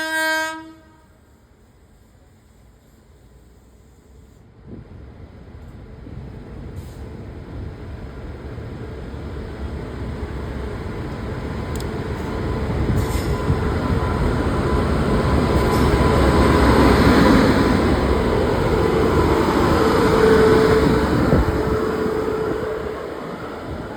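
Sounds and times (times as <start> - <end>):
train wheels rumbling: 3.9 - 23.9.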